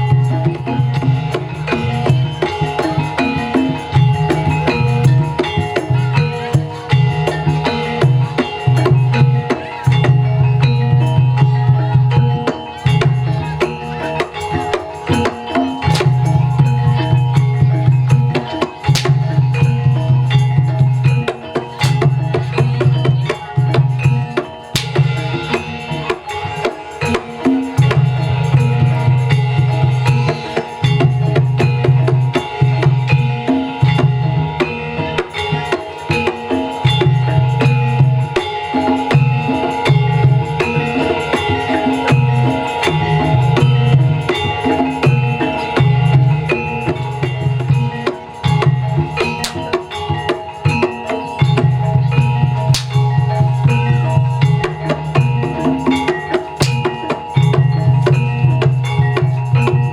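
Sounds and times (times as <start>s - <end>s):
drum strokes: 0.0s - 59.9s
ringing metal notes: 0.0s - 59.9s.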